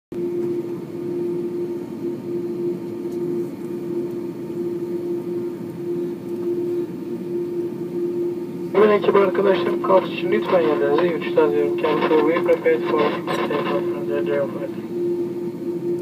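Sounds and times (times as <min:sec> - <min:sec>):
jet engines at low power: 0:00.1 - 0:16.0
constant droning tone: 0:00.4 - 0:16.0.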